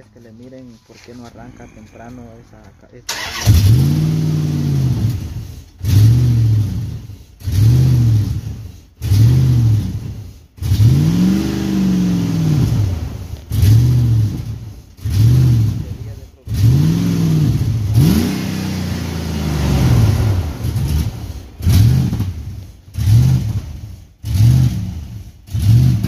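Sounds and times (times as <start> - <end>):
engine revving roughly: 3.1 - 26.0.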